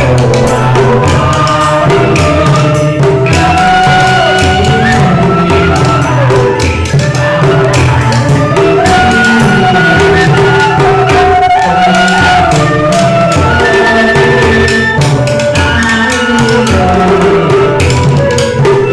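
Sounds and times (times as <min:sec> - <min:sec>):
bamboo flute melody: 0:00.0 - 0:18.9
hand percussion tapping: 0:00.0 - 0:18.9.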